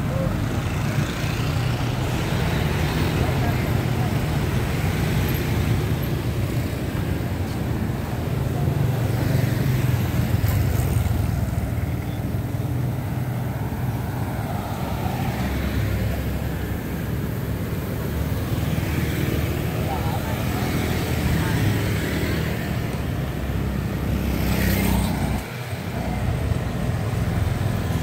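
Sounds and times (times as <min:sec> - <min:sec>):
scooters and cars passing: 0:00.0 - 0:28.0.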